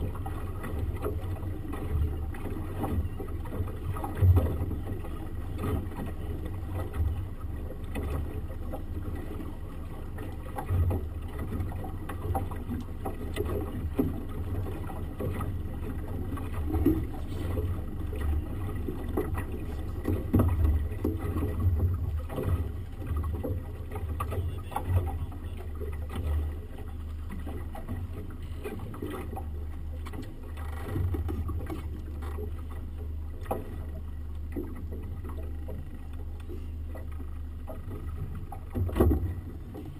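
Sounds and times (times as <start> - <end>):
outboard motor running: 0.0 - 39.9
wind and water noise: 0.0 - 39.9.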